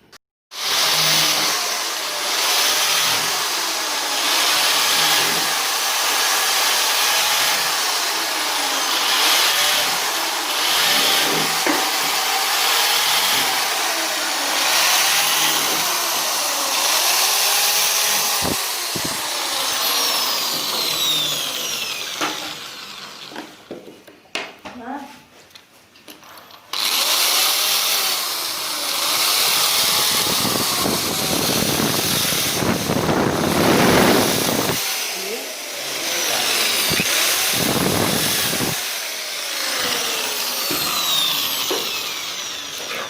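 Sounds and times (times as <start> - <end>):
power tool cutting wood: 0.1 - 23.8, 26.7 - 43.0.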